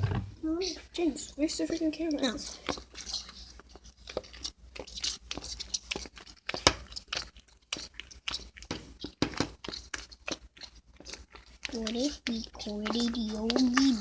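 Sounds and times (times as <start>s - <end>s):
slime stirred with spatula: 0.4s - 14.0s.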